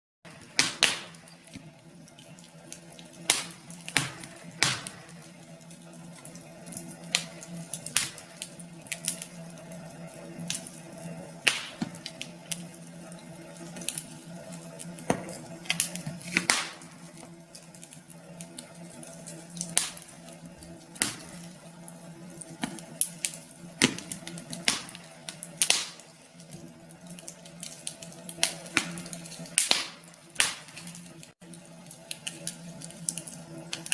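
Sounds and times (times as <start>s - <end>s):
wood fire crackling: 0.3s - 33.9s.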